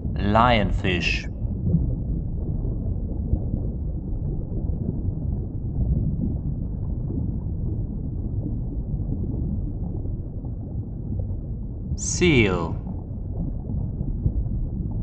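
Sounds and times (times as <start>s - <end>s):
low underwater rush: 0.0s - 15.0s.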